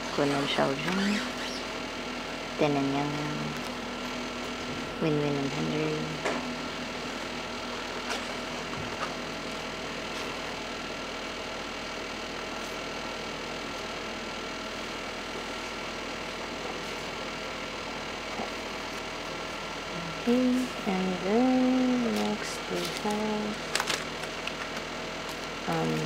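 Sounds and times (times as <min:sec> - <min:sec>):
steady background hum and hiss: 0:00.0 - 0:26.0.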